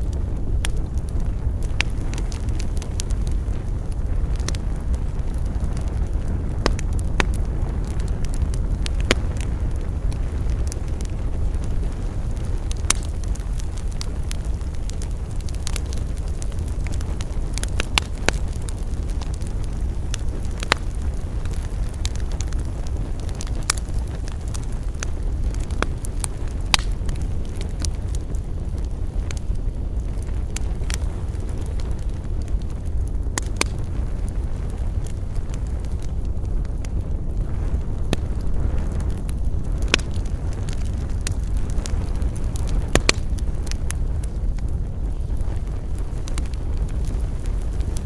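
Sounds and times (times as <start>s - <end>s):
campfire crackling and popping: 0.0s - 48.0s
steady low rumble: 0.0s - 48.0s.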